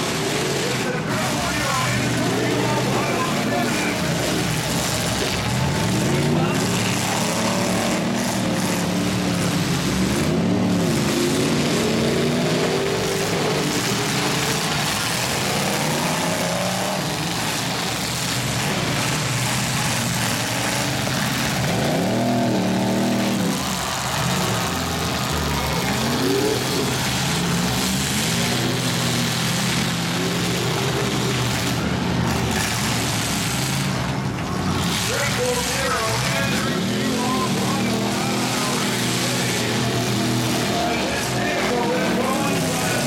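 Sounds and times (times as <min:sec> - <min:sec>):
truck engines revving: 0:00.0 - 0:43.0.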